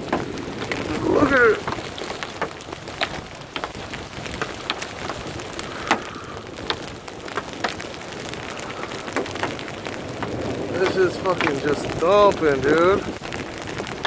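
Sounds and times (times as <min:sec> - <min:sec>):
hailstones knocking on hard surfaces: 0:00.0 - 0:14.0
rain hissing: 0:00.0 - 0:14.0.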